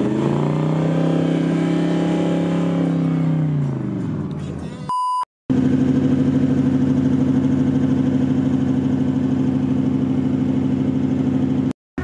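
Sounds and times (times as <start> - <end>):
engine running hard: 0.0 - 4.7, 5.5 - 11.8.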